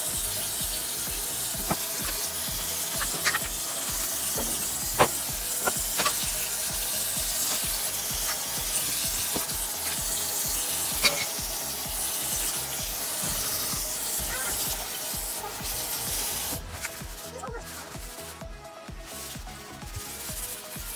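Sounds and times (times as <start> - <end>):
sponge scrubbing metal sink: 0.0 - 18.4, 19.1 - 20.9.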